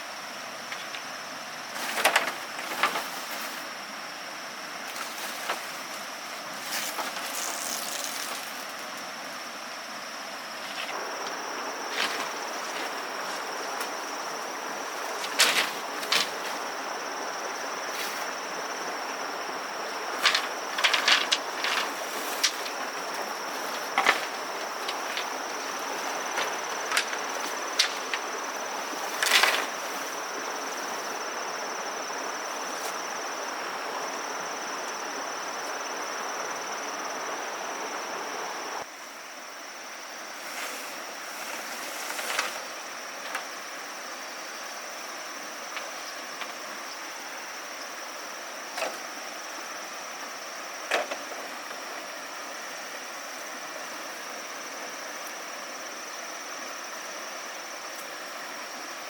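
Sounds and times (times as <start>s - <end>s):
high-pitched insect drone: 0.0s - 59.0s
outdoor background noise: 0.0s - 59.0s.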